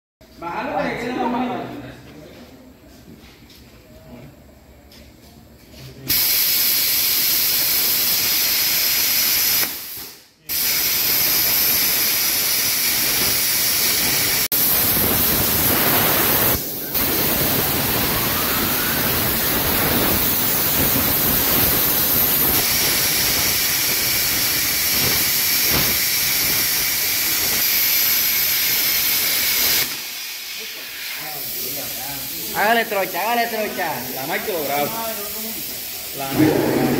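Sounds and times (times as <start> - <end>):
plasma cutter hissing: 6.1 - 36.9.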